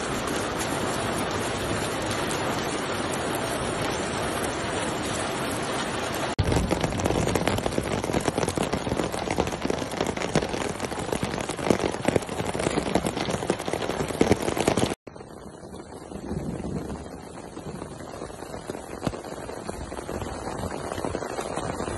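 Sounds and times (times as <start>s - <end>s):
hailstones ticking: 0.0s - 21.9s
heavy rain hissing: 0.0s - 21.9s.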